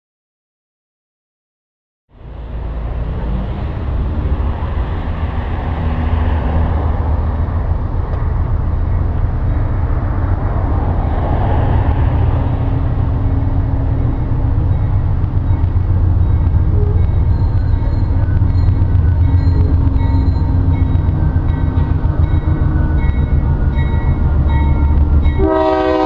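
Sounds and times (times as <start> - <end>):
diesel locomotive rumble: 2.1 - 26.0.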